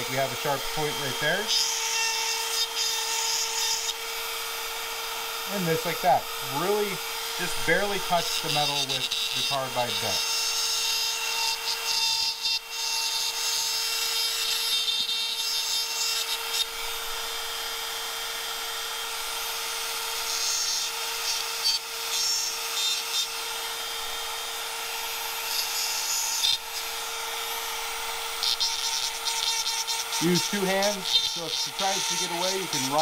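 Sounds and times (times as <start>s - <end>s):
die grinder high whine: 0.0s - 33.0s.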